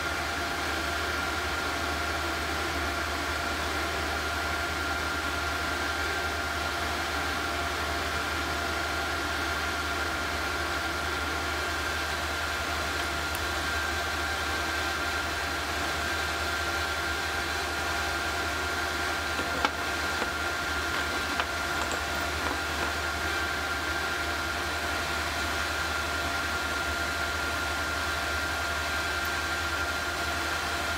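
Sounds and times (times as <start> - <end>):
induction heater high whine: 0.0 - 30.9.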